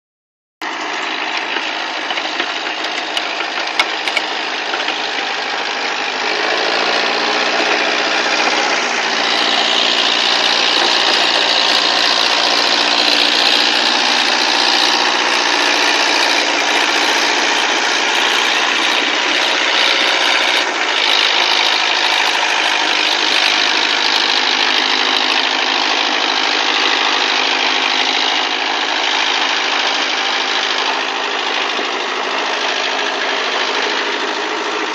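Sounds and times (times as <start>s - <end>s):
tractor diesel engine running: 0.6s - 34.9s.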